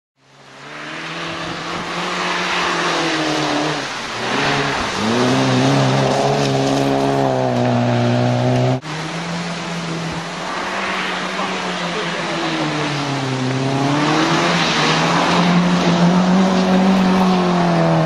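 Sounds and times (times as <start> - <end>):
rally car engine at high revs: 0.4 - 18.0.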